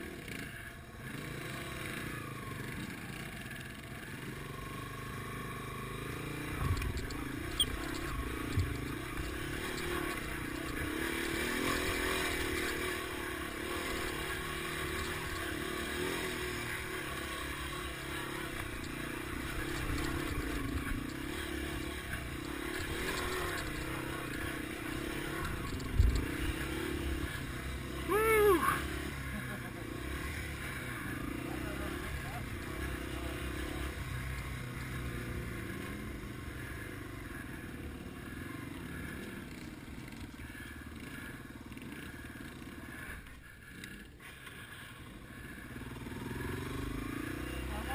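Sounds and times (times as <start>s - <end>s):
motorcycle engine at low speed: 0.0s - 47.9s.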